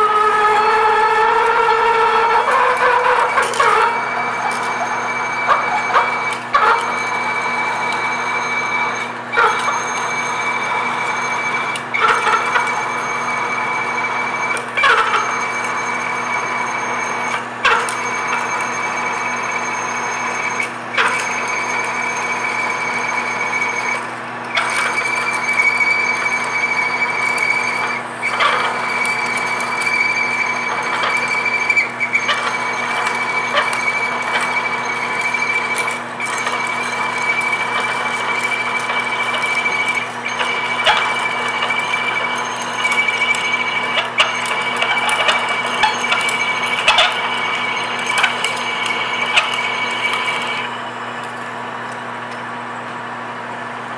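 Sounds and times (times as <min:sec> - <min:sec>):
drill cutting metal: 0:00.0 - 0:52.7
lathe whine: 0:00.0 - 0:53.9.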